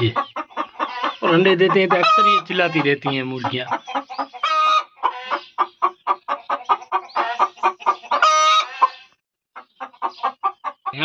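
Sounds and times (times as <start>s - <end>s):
hen cackling: 0.0s - 11.0s.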